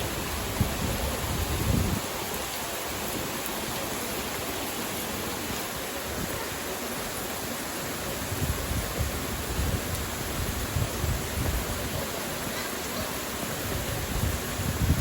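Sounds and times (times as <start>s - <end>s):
rain hissing: 0.0s - 15.0s
rushing river: 0.0s - 15.0s
small waterfall: 0.0s - 15.0s.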